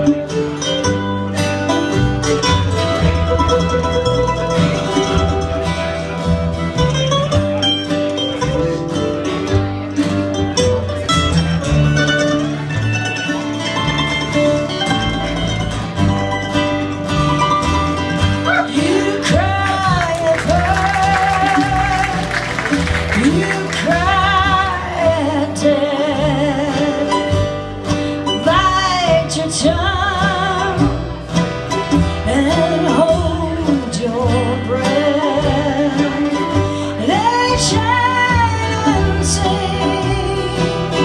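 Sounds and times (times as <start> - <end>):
acoustic guitars: 0.0 - 41.0
plucked upright bass: 0.0 - 41.0.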